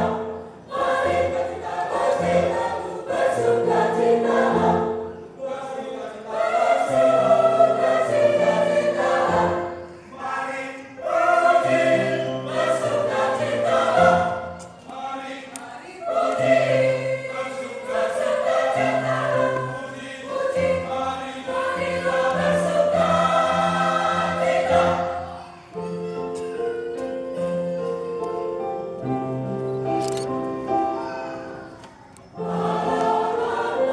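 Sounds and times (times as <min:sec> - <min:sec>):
choir singing: 0:00.0 - 0:29.5, 0:30.5 - 0:33.9.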